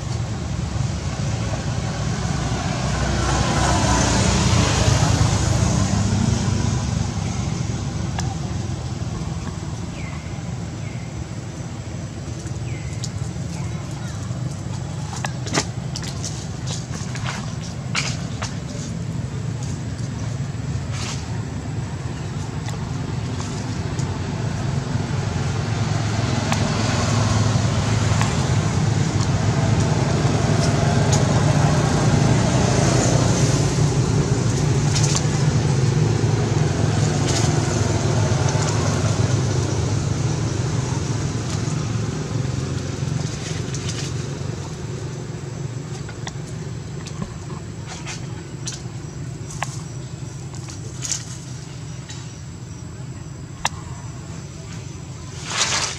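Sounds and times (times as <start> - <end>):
low engine rumble: 0.0 - 55.9.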